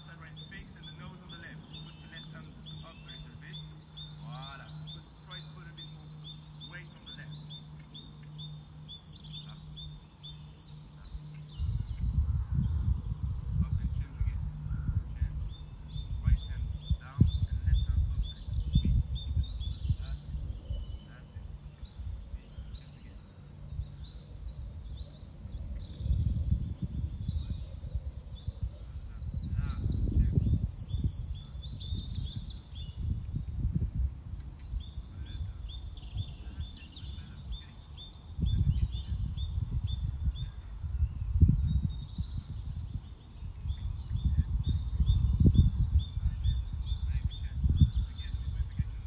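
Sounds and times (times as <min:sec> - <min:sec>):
low rumble: 0:00.0 - 0:49.0
small birds singing: 0:00.0 - 0:49.0.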